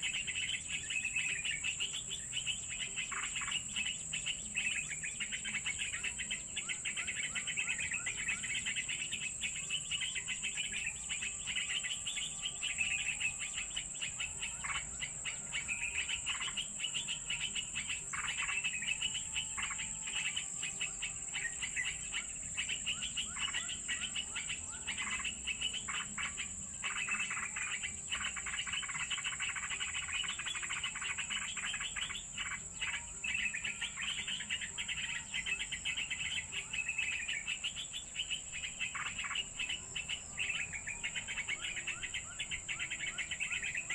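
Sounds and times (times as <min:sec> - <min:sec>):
birds chirping: 0:00.0 - 0:43.9
high-pitched insect drone: 0:00.0 - 0:43.9.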